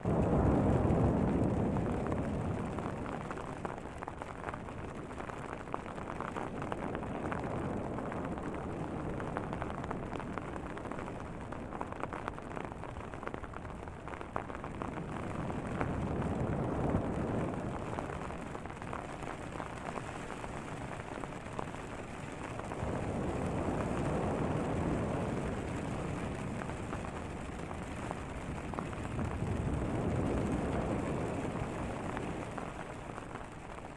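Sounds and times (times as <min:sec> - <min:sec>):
deep ocean waves rumbling: 0:00.0 - 0:12.4, 0:13.1 - 0:33.9
hail and rain on tent: 0:00.0 - 0:33.9.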